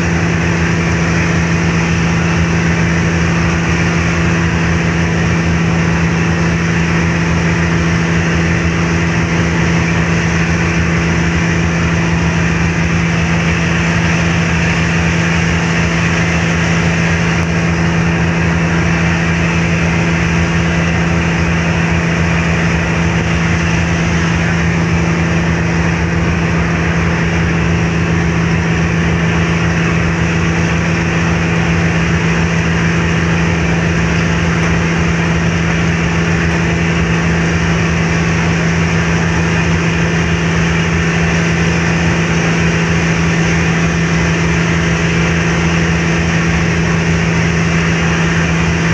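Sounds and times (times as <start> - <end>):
ship engines humming: 0.0 - 48.9
wind and water rushing: 0.0 - 48.9.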